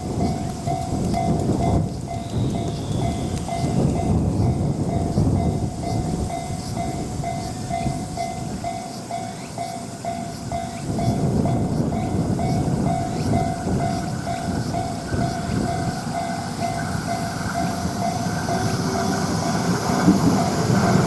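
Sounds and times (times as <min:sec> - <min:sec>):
passing train rumble: 0:00.0 - 0:21.0
level crossing alarm ringing: 0:02.1 - 0:21.0.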